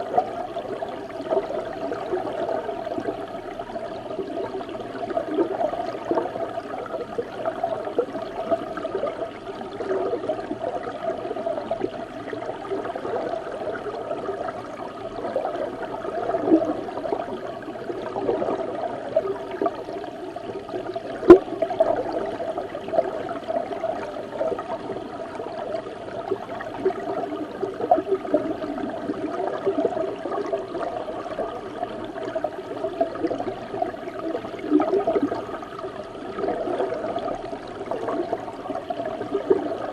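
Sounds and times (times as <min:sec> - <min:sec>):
underwater river water gurgling: 0:00.0 - 0:39.9.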